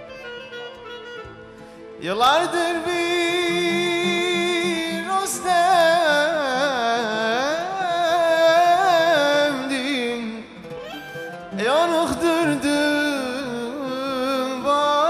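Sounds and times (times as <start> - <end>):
musical accompaniment: 0.0 - 6.4, 9.0 - 14.8
man singing melismatic runs: 2.0 - 10.7, 11.5 - 15.0.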